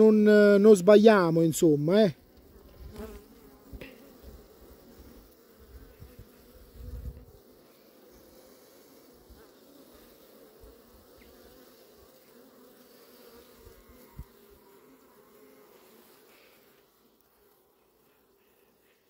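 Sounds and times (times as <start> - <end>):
honeybee colony buzzing: 0.0 - 19.0.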